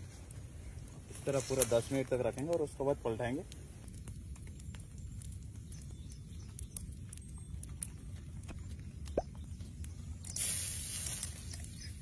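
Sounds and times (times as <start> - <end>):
charcoal embers crackling: 0.0 - 12.0
small irregular pops: 0.2 - 11.9.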